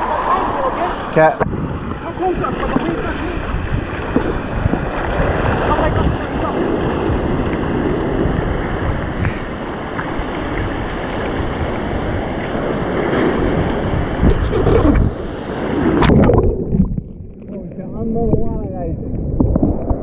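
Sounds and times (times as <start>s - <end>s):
surf and whitewater rushing: 0.0s - 19.0s
wave splashing over camera: 0.0s - 20.0s
wind on microphone: 0.0s - 20.0s.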